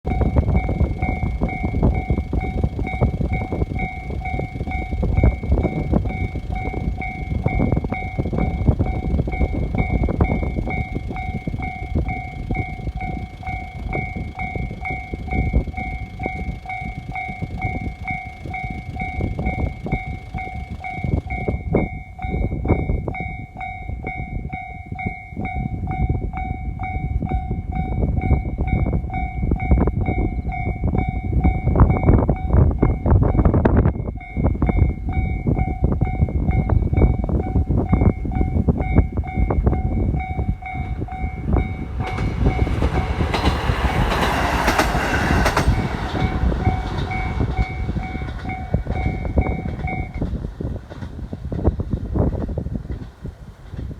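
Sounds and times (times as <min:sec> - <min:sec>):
railcar rumble and wheel clatter: 0:00.0 - 0:53.9.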